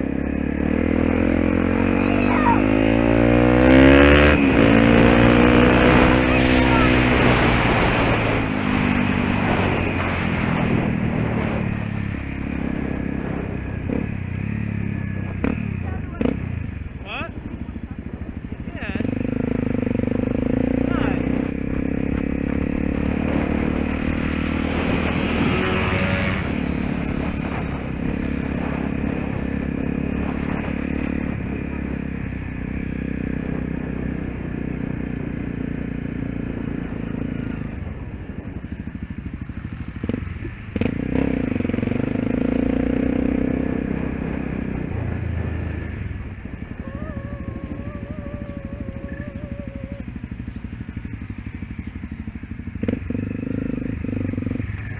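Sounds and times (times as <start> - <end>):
wind noise: 0.0 - 19.0, 20.3 - 39.4, 40.0 - 51.6
dirt bike engine running: 0.0 - 54.9.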